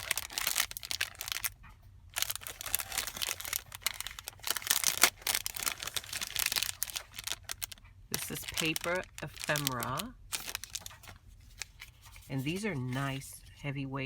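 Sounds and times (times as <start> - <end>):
plastic packaging crinkling: 0.0 - 13.5.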